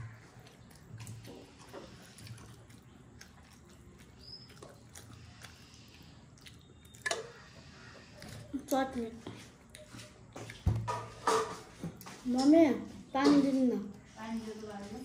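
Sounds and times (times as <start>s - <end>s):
child chewing: 0.0s - 15.0s.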